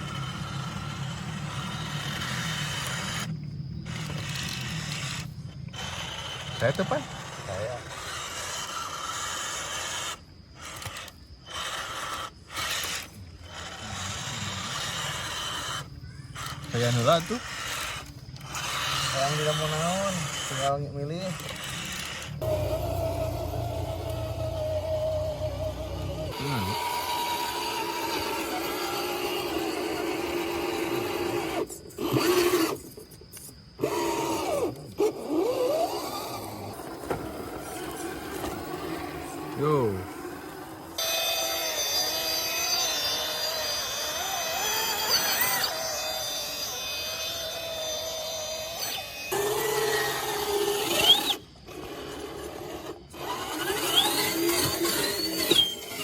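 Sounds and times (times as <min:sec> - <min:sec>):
toy truck motor grinding whir: 0:00.0 - 0:56.0.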